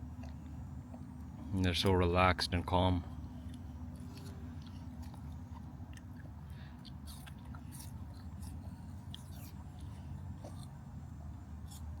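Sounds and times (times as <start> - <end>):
children chewing and crunching snacks: 0.0 - 12.0
steady low hum: 0.0 - 12.0.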